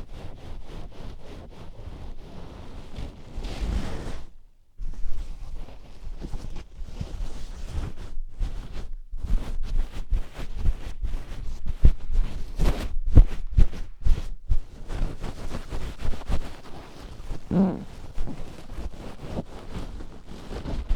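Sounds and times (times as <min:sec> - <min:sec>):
hands rubbing on microphone: 0:00.0 - 0:20.9.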